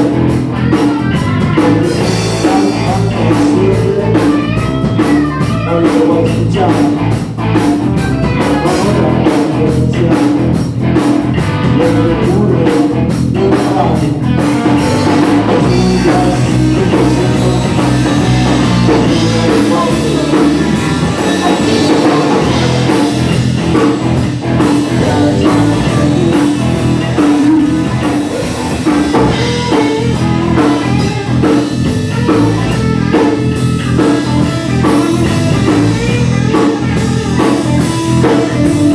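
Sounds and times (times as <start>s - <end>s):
rock and roll band playing: 0.0s - 38.9s.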